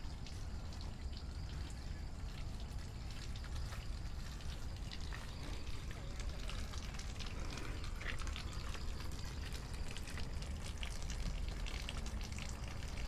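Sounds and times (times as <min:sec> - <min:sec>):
hose water pouring into pond: 0:00.0 - 0:13.0.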